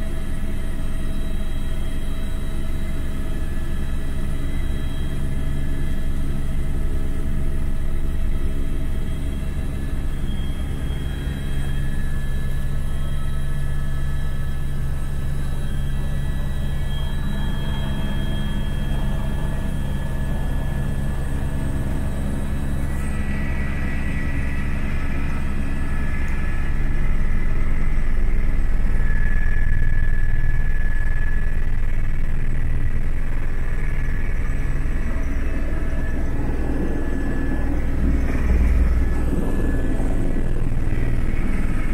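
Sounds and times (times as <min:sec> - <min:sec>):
aircraft engine droning: 0:00.0 - 0:41.9
faint steady whine: 0:00.0 - 0:41.9.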